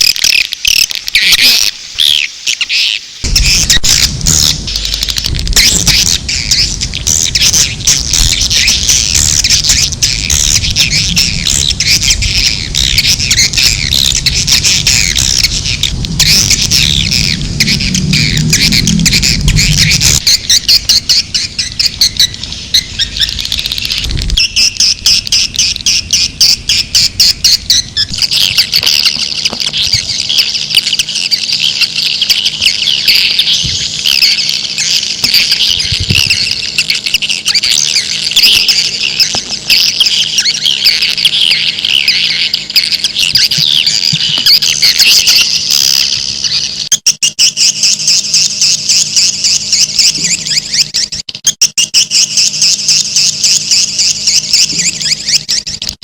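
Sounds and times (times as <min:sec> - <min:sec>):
swiftlets twittering chatter: 0:00.0 - 0:56.0.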